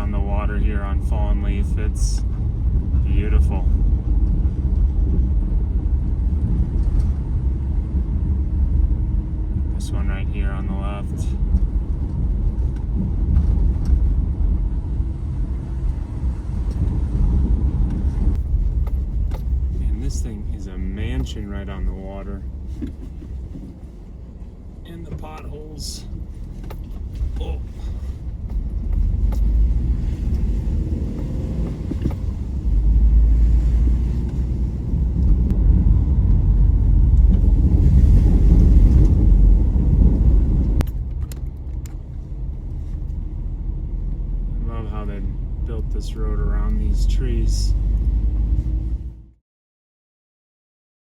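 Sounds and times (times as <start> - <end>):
car road noise rumble: 0.0 - 49.4.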